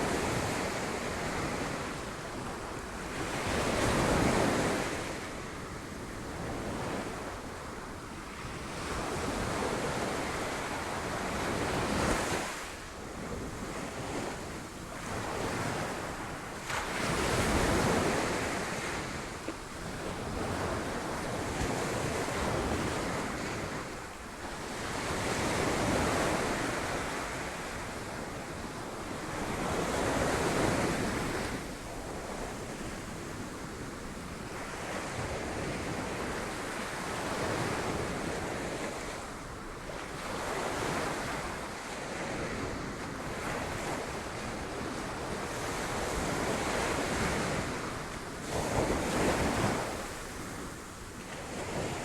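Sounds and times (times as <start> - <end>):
wind on microphone: 0.0 - 52.0.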